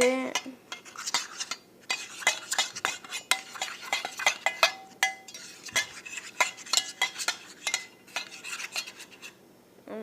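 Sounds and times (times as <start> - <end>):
spoon tapping and scraping container: 0.3 - 9.4.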